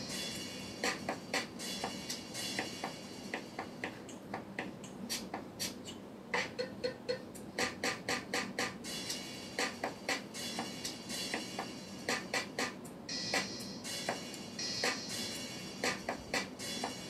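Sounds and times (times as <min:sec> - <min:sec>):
background music: 0:00.0 - 0:17.0
sharp clicking percussion: 0:00.0 - 0:17.0.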